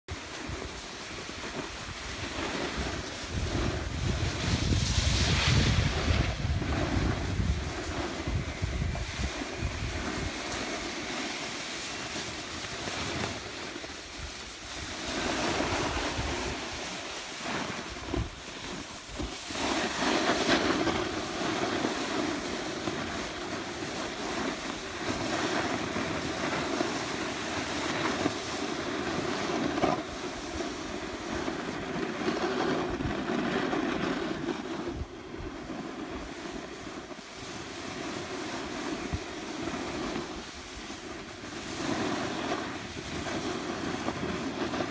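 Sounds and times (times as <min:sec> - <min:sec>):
skis scraping on snow: 0:00.1 - 0:44.9
wind buffeting microphone: 0:00.1 - 0:44.9.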